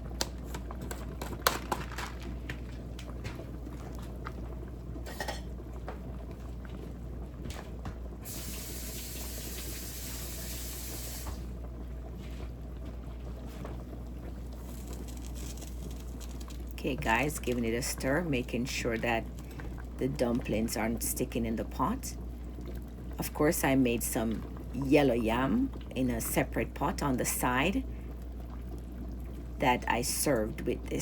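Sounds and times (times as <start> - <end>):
soup bubbling at the boil: 0.0 - 31.0.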